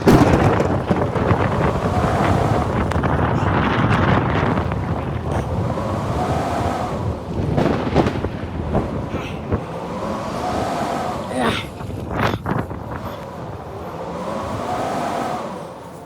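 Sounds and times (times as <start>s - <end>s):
faint howling wind tone: 0.0s - 16.0s
wind buffeting microphone: 0.0s - 16.0s.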